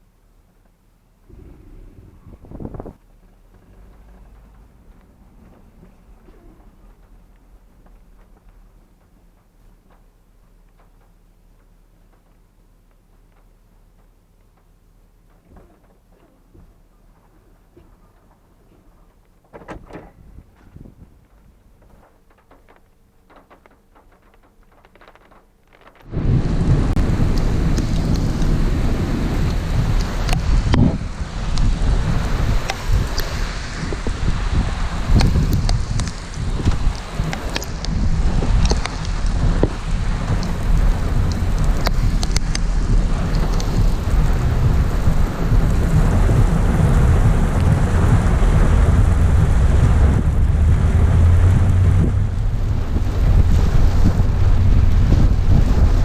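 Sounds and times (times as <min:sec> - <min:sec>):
raindrops ticking: 0:00.5 - 0:19.5, 0:21.1 - 0:56.0
wind rumbling on microphone: 0:01.2 - 0:10.0, 0:15.3 - 0:56.0
rush of rain and wind: 0:01.3 - 0:16.0, 0:19.5 - 0:56.0.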